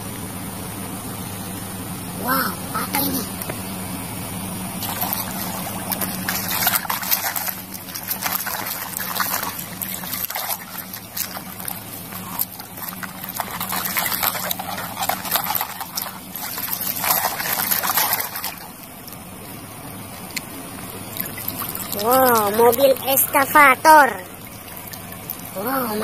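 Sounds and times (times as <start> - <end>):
faint steady hum: 0.0 - 26.0
water sloshing in a bucket: 4.5 - 26.0.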